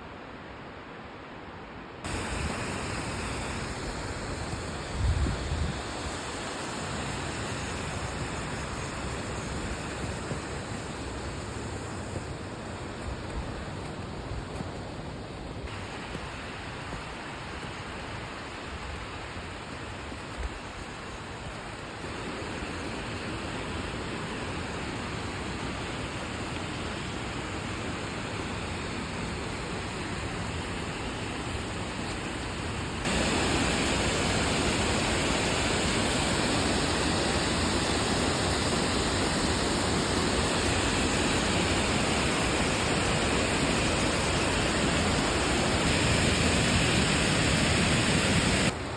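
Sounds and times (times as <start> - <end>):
running water rushing: 2.0 - 48.9.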